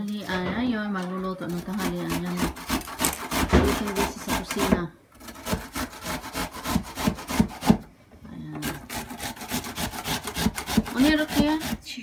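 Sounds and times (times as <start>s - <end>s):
garlic grated on metal grater: 1.4s - 7.8s, 8.6s - 12.0s.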